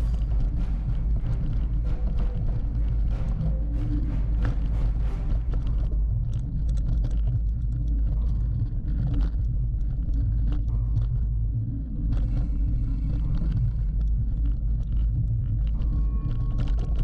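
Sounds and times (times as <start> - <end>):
wind rumble: 0.0 - 17.0.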